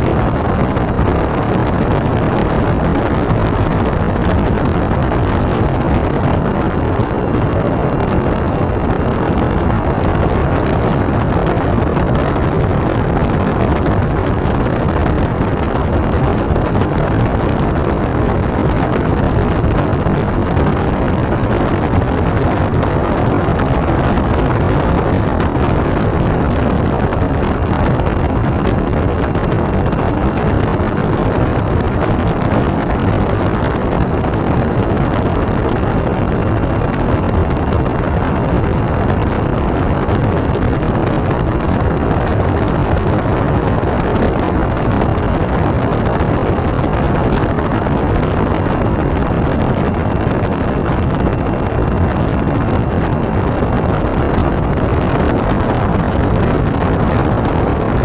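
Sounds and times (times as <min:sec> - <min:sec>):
airflow and propeller noise: 0:00.0 - 0:58.0
thin high whine: 0:00.0 - 0:58.0.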